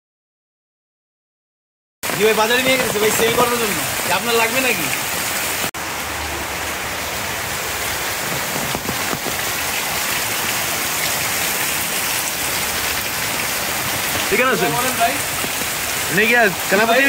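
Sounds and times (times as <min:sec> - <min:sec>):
heavy rain pouring on foliage: 0:02.0 - 0:17.0.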